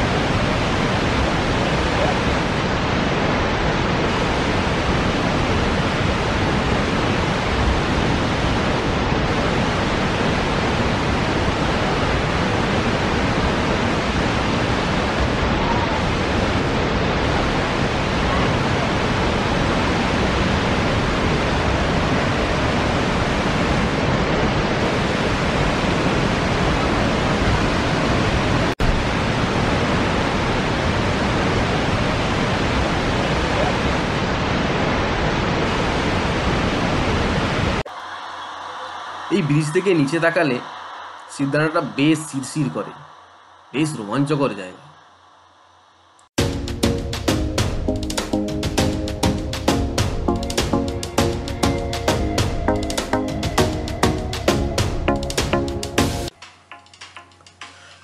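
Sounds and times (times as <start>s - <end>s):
waterfall rushing: 0.0s - 44.0s, 46.4s - 56.3s.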